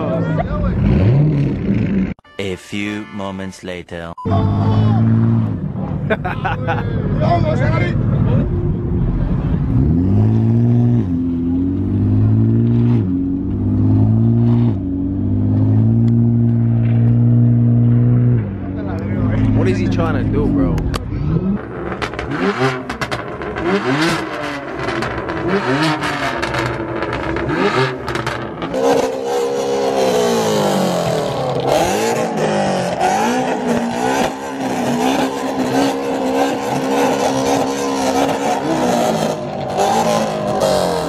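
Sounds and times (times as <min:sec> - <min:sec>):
car engine revving: 0:00.0 - 0:02.2, 0:04.3 - 0:06.2, 0:07.0 - 0:41.0.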